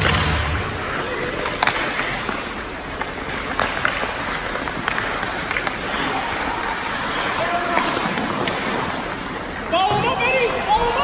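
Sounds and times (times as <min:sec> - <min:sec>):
hockey sticks and puck clacking: 0:00.0 - 0:11.0
skates scraping ice: 0:00.0 - 0:11.0.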